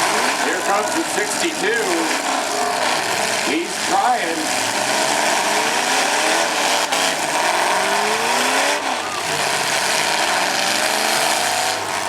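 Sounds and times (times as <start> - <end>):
vehicle engines revving: 0.0 - 12.0.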